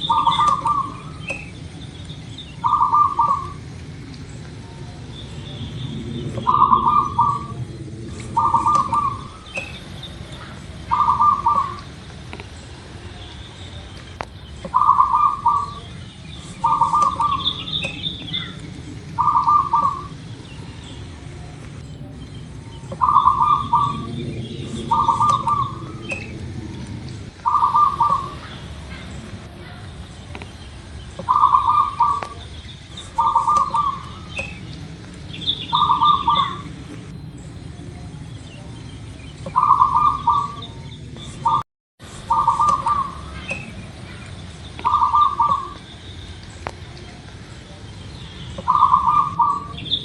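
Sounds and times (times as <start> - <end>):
dove cooing: 0.0 - 13.2, 14.6 - 38.1, 39.4 - 45.9, 48.6 - 50.0
low background rumble: 0.0 - 50.0
small birds chirping: 0.0 - 50.0.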